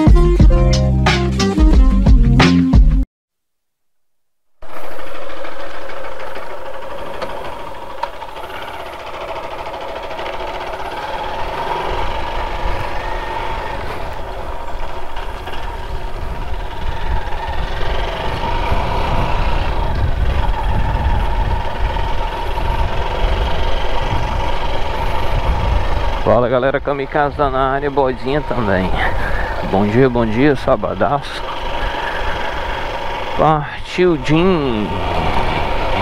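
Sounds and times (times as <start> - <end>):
motorcycle engine running: 4.6 - 36.0.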